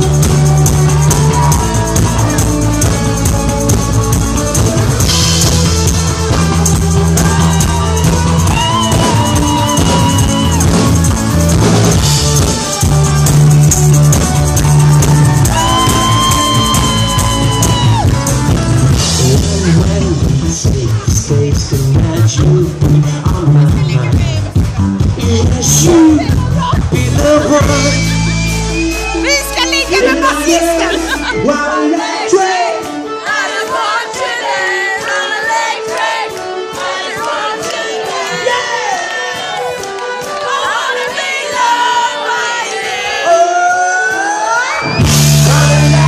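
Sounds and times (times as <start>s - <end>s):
live rock band instrumental: 0.0s - 37.3s, 44.2s - 46.0s.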